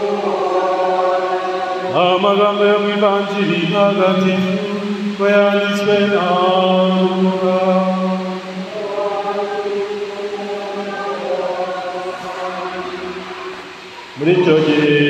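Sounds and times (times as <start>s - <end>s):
person chanting long notes: 0.0s - 15.0s.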